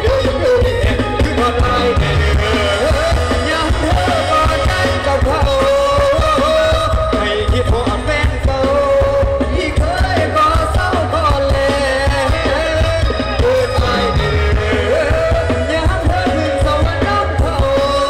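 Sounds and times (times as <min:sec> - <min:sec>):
band playing through loudspeakers: 0:00.0 - 0:18.0
drum beat: 0:00.0 - 0:18.0
electric bass: 0:00.0 - 0:18.0.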